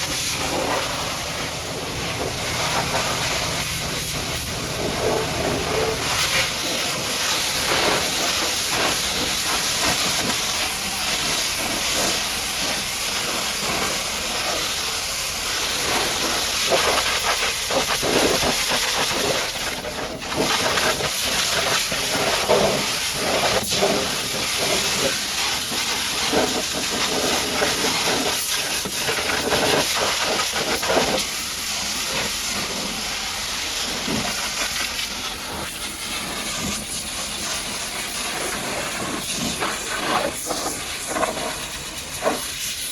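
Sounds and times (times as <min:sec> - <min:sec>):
pressure washer spraying: 0:00.0 - 0:42.9.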